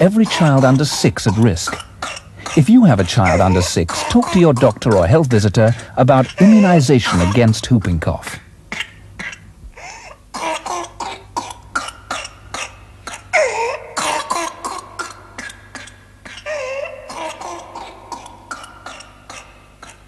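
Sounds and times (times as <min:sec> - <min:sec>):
child coughing: 0:00.2 - 0:05.2, 0:06.2 - 0:07.4, 0:08.7 - 0:20.0.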